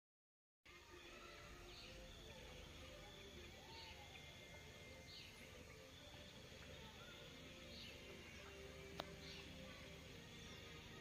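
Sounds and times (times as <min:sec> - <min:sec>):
soft high bird chirps: 0:00.8 - 0:11.0.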